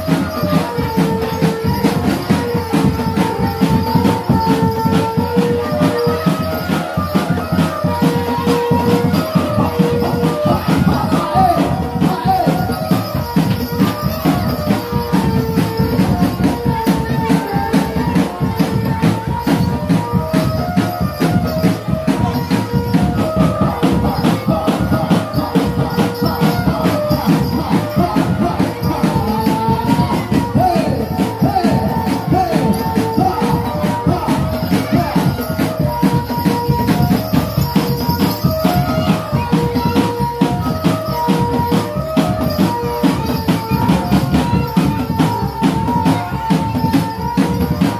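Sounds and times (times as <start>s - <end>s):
fast dense percussion: 0.0s - 47.9s
jingling shaker rattle: 0.0s - 47.9s.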